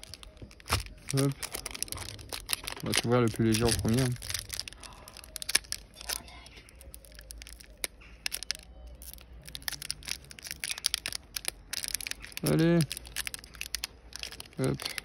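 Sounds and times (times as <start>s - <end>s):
foil wrapper tearing and crinkling: 0.0s - 15.0s.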